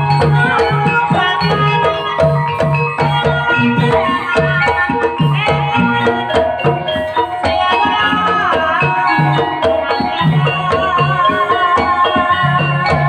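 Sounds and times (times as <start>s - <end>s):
hand drums beating: 0.0s - 13.0s
ringing tuned percussion melody: 0.0s - 13.0s.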